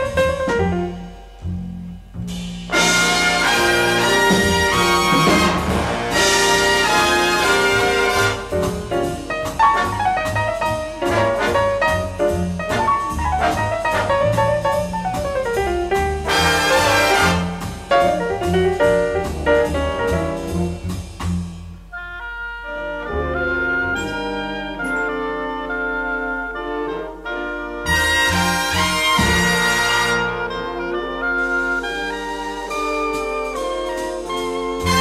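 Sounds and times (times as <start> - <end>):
drum kit: 0.0 - 22.2, 23.2 - 25.6, 27.3 - 35.0
brass section playing: 2.7 - 14.8, 16.2 - 20.9, 21.9 - 35.0.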